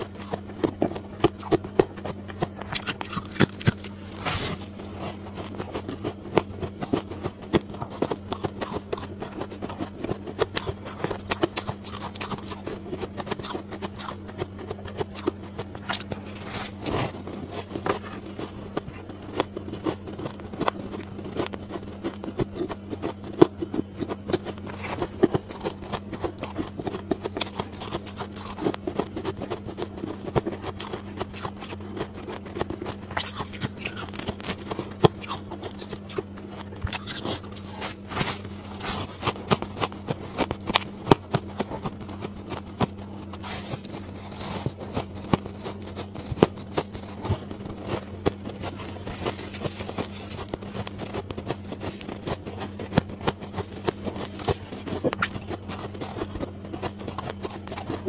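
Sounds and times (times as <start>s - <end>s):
crunching and chewing ice: 0.0s - 58.0s
steady low hum: 0.0s - 58.0s.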